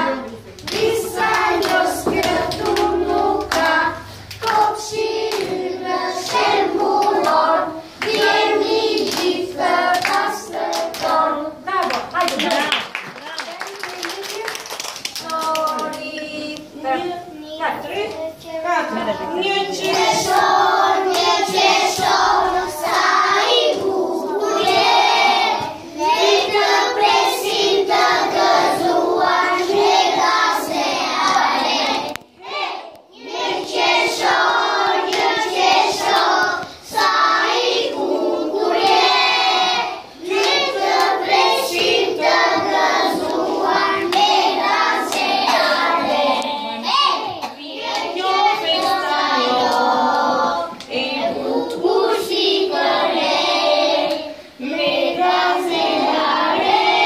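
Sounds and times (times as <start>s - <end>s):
children singing: 0.0s - 11.6s, 18.9s - 57.0s.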